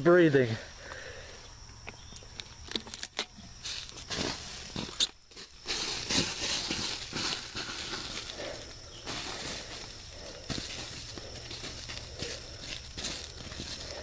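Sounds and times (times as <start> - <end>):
footsteps in undergrowth: 1.6 - 14.0.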